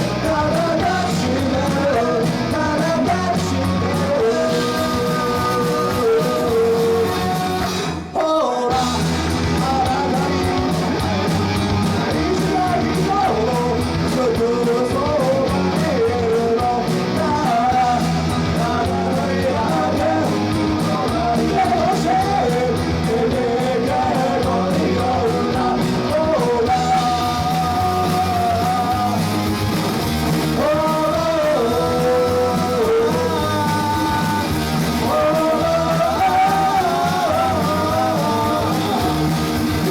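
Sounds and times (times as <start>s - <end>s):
person singing: 0.0s - 29.6s, 30.5s - 39.9s
rock band playing live: 0.0s - 39.9s.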